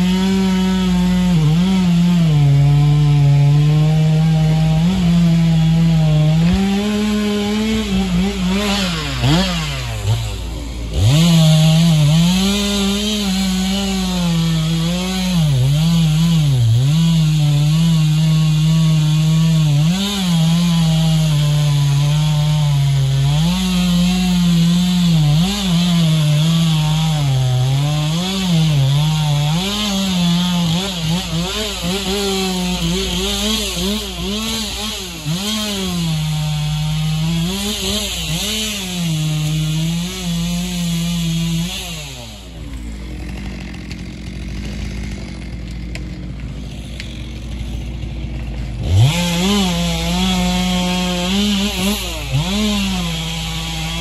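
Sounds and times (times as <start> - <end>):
chainsaw cutting timber: 0.0 - 54.0.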